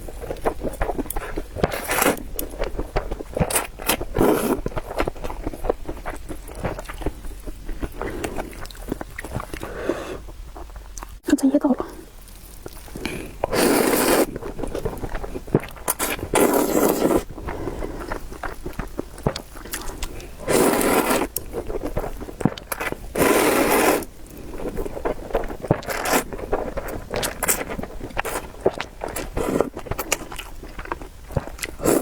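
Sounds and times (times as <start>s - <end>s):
noodles being slurped: 0.0s - 9.9s, 12.2s - 32.0s.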